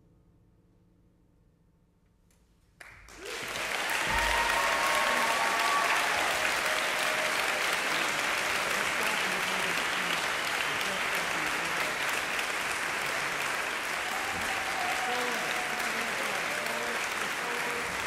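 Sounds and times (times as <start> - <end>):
audience applause: 2.8 - 18.0
people cheering: 3.1 - 18.0.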